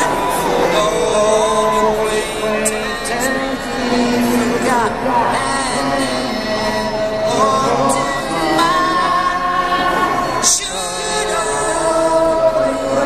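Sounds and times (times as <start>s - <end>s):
music with singing voices: 0.0s - 13.0s.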